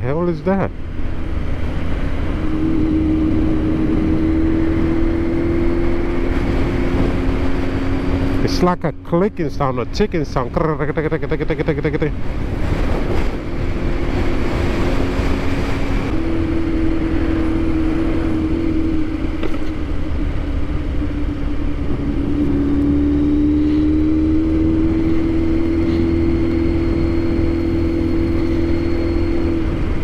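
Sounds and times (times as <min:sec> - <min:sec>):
motorcycle engine cruising: 0:00.0 - 0:30.0
wind rush: 0:00.8 - 0:08.5, 0:12.1 - 0:30.0.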